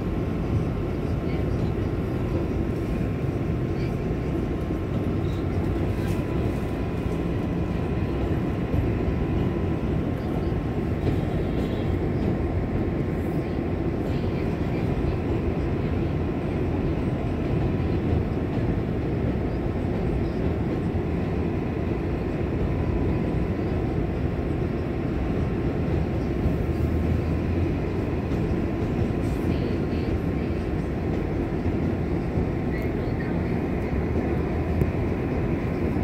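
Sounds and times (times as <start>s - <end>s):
subway train rumbling: 0.0s - 36.0s.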